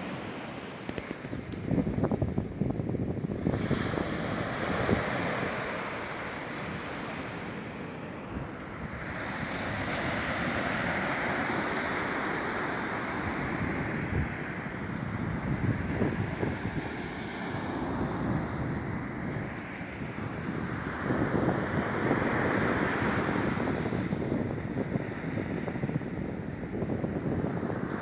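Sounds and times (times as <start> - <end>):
sea waves washing onto beach: 0.0 - 28.0
wind buffeting microphone: 0.0 - 28.0.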